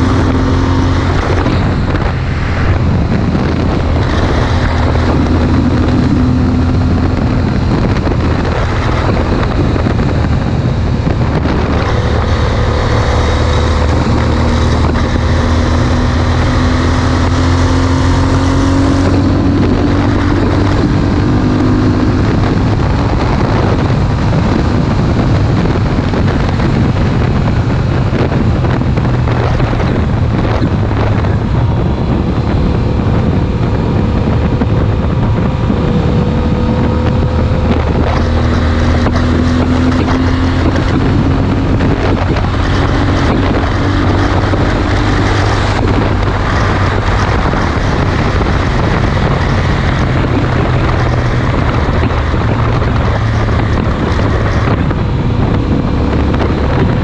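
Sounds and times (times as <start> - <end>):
motorcycle engine cruising: 0.0 - 57.0
wind buffeting microphone: 0.0 - 57.0.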